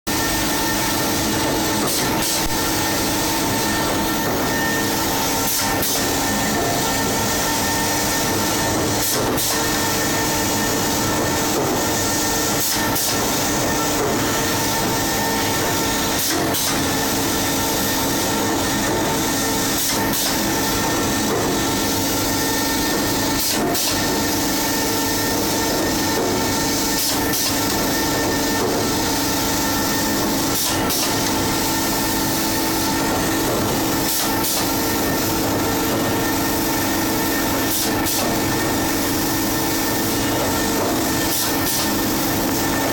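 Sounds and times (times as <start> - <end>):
machine humming: 0.1 - 42.9.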